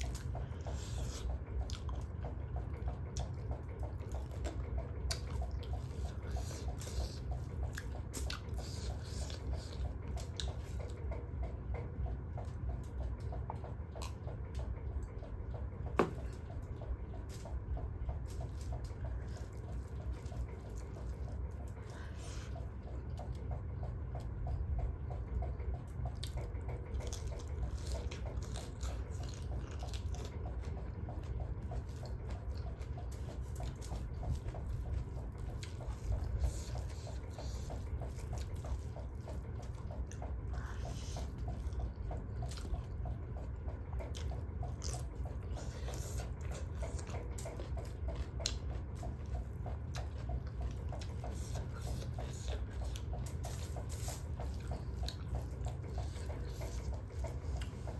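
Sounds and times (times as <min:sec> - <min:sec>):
wet chewing and lip smacks: 0:00.0 - 0:57.9.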